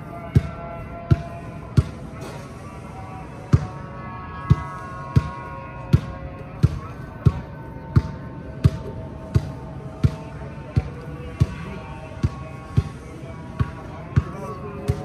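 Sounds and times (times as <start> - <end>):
background music with held tones: 0.0 - 15.0.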